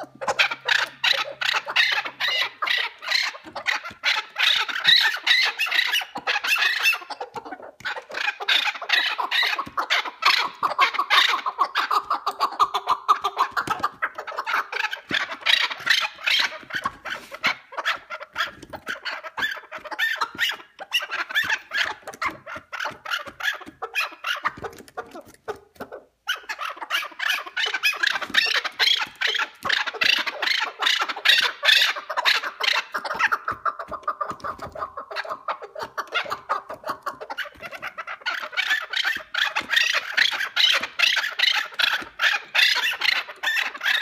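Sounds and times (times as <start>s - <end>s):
partridge clucking calls: 0.0s - 44.0s.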